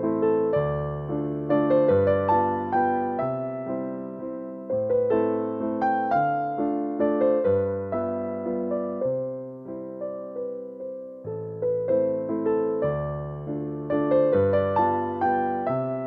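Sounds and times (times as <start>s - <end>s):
slow keyboard melody: 0.0s - 16.0s.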